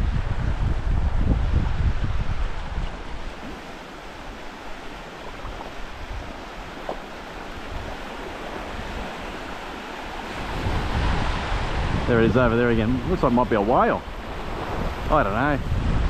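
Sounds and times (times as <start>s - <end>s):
small waves washing on sand: 0.0s - 16.0s.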